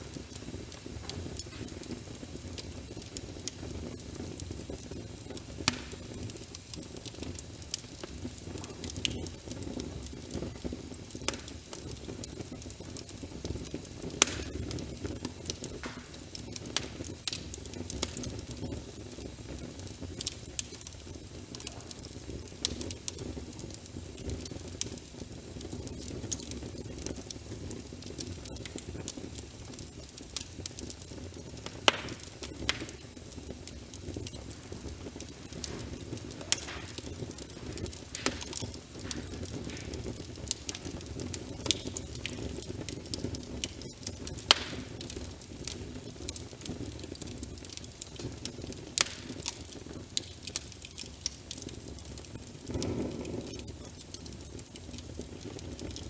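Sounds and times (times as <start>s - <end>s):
rain pattering: 0.0s - 56.0s
wood fire crackling: 0.0s - 56.0s.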